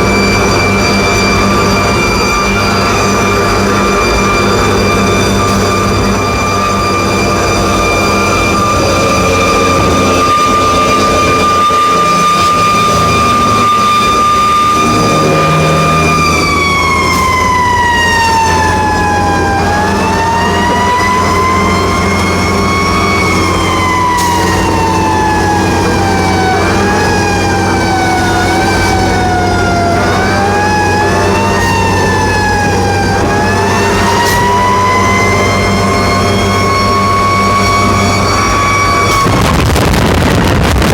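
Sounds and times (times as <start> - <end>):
diesel engine running: 0.0 - 40.9
fire truck siren: 0.0 - 40.9.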